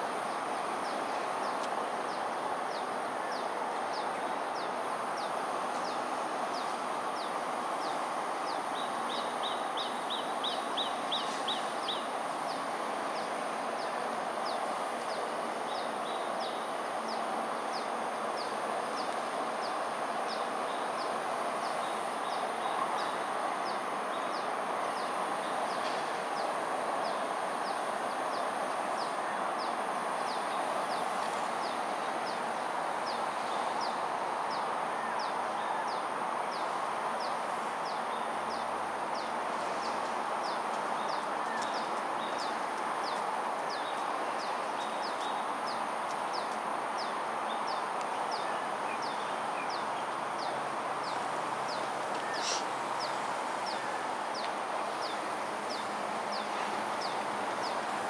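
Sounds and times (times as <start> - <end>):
distant city traffic hum: 0.0 - 58.0.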